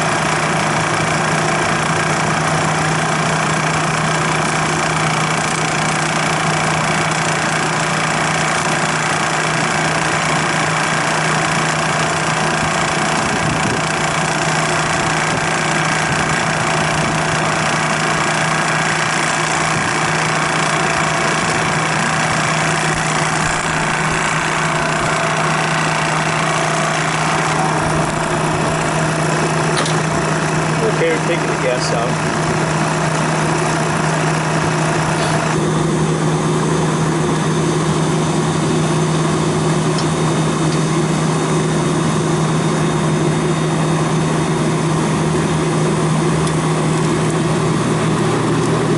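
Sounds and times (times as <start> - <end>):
machine humming: 0.0 - 48.9.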